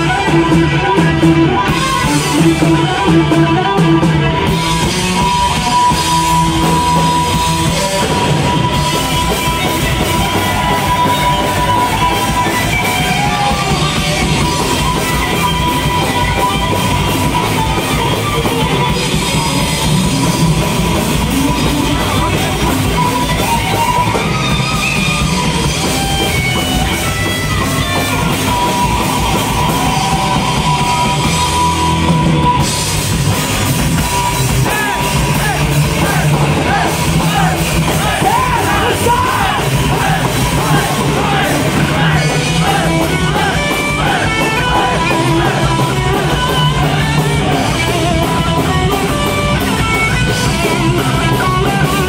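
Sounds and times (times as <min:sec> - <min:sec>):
metal band playing: 0:00.0 - 0:52.0.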